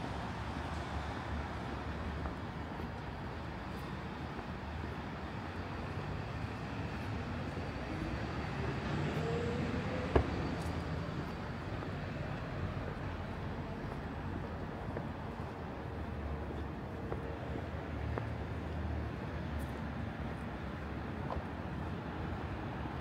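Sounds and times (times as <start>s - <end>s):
city traffic hum: 0.0s - 23.0s.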